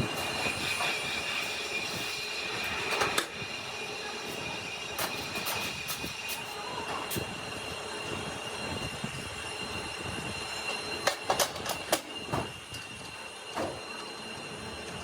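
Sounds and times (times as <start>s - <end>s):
machinery whine: 0.0s - 15.0s.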